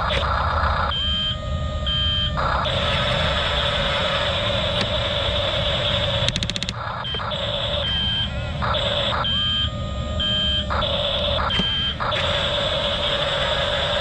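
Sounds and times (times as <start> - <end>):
electric motors whirring: 2.3 - 14.0.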